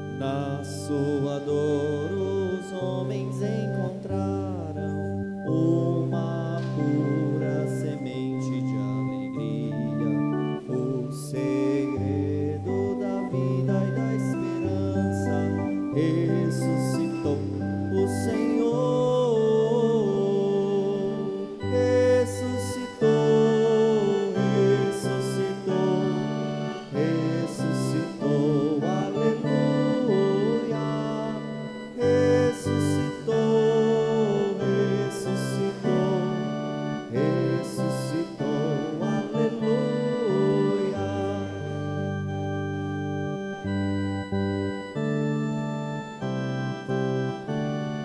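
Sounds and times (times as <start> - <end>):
electronic organ church music: 0.0 - 48.0.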